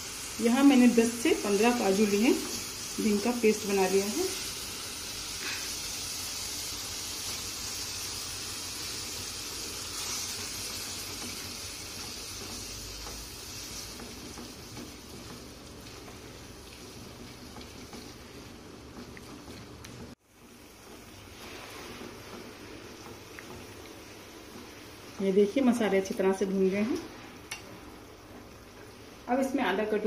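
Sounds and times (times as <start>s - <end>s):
masala sizzling in a frying pan: 0.0s - 30.0s.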